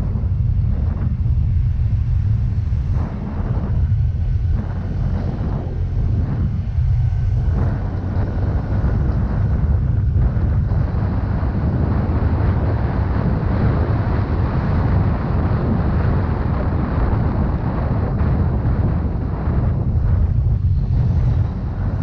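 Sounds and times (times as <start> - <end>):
road noise: 0.0 - 22.0
wind buffeting microphone: 0.0 - 22.0.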